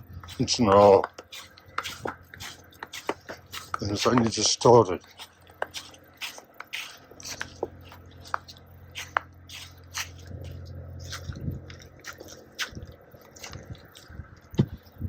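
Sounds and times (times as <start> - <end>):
footsteps crunching in snow: 0.0 - 14.8
steady low hum: 0.0 - 15.0.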